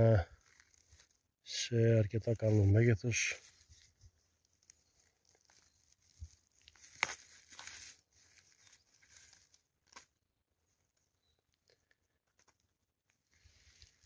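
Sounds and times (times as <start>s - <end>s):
rustling of dry grass: 0.0s - 14.0s.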